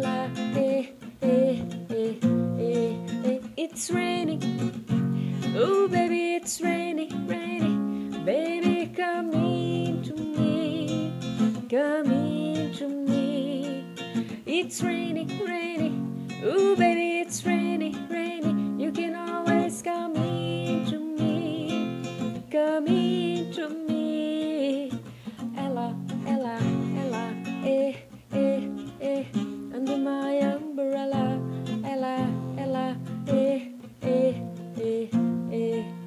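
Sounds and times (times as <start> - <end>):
person singing wordlessly: 0.0 - 4.7, 5.4 - 36.0
acoustic guitar strumming: 0.0 - 36.0.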